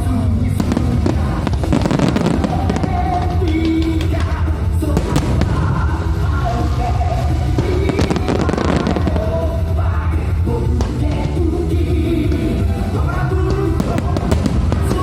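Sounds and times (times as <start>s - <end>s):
fireworks bursting and crackling: 0.0s - 15.0s
loud music with heavy bass: 0.0s - 15.0s.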